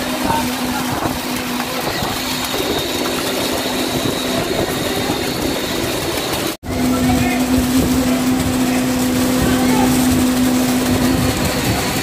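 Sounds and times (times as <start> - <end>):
engine-driven machinery humming: 0.0 - 12.0.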